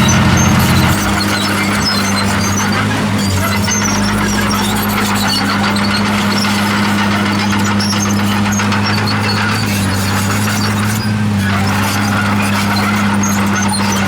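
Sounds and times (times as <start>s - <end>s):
bulldozer running: 0.0s - 14.0s
steel tracks squeaking: 0.0s - 14.0s.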